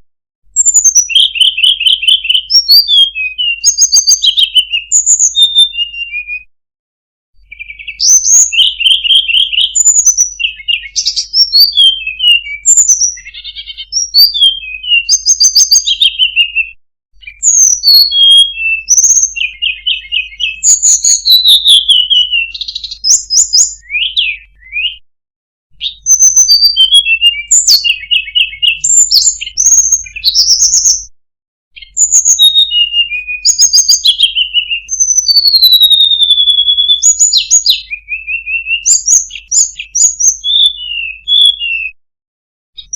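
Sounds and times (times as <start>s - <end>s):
songbird singing trills and whistles: 0.5s - 6.5s, 7.4s - 25.0s, 25.7s - 31.1s, 31.8s - 42.0s.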